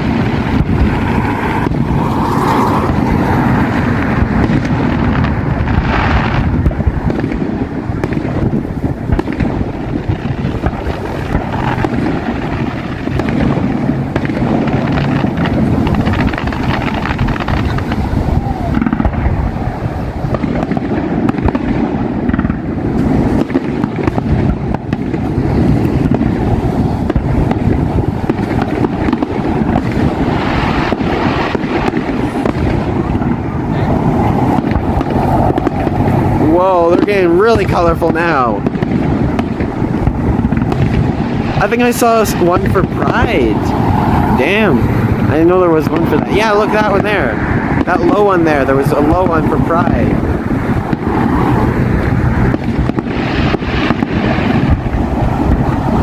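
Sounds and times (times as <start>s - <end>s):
distant firework booms: 0.0s - 56.0s
firework pops and crackles: 0.0s - 56.0s.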